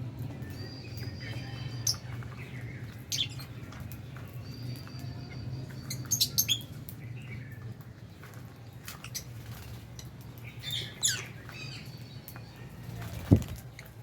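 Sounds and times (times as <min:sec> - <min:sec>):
lovebirds chirping: 0:00.2 - 0:14.0.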